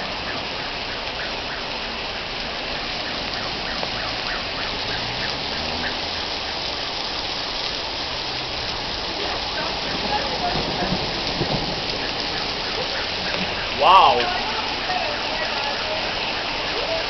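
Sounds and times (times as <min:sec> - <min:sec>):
heavy rain pouring: 0:00.0 - 0:17.0
raindrops pattering close by: 0:00.0 - 0:17.0.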